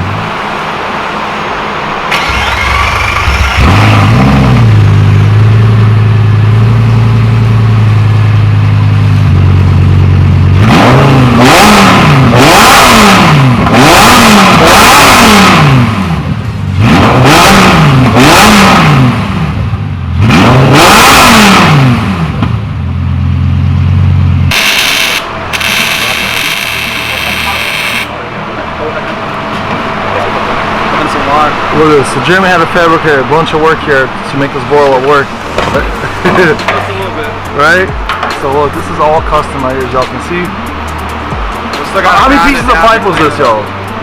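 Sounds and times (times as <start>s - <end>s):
car engine idling and revving: 0.0s - 44.0s.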